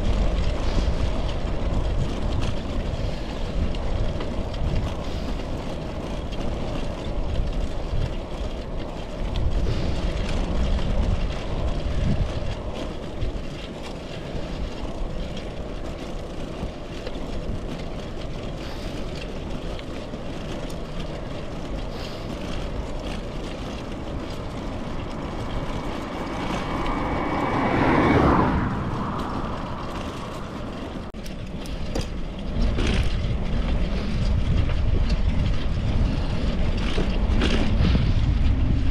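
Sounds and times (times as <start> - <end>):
wind gusts on microphone: 0.0 - 20.1, 21.0 - 38.9
wind and road noise: 0.0 - 38.9.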